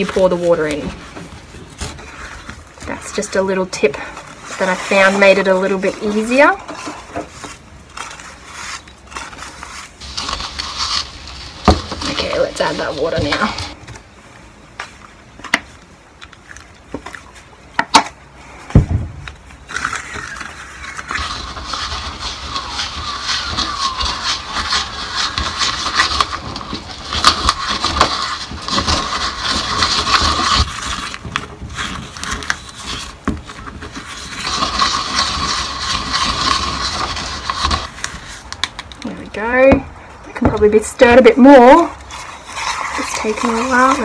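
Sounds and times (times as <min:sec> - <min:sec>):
stick scraping concrete mix in cup: 0:00.0 - 0:01.1, 0:01.8 - 0:13.8, 0:19.6 - 0:39.8, 0:40.6 - 0:44.0.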